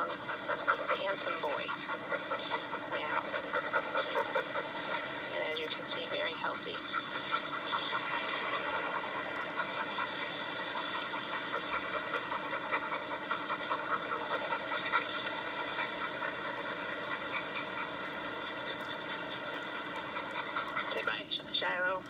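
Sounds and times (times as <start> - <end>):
rushing noise through small speaker: 0.0 - 22.0.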